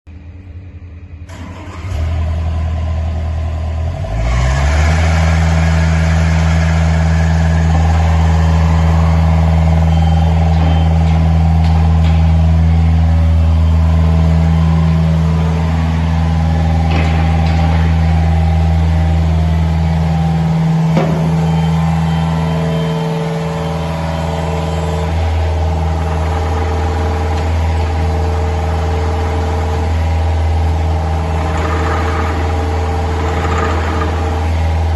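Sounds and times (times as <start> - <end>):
diesel engine starting and running: 0.1 - 34.9.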